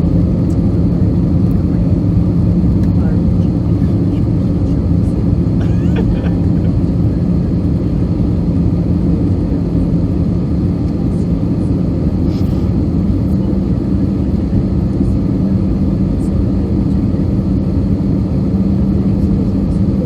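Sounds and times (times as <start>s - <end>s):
aircraft cabin engine roar: 0.0s - 20.0s
low even hum: 0.0s - 20.0s.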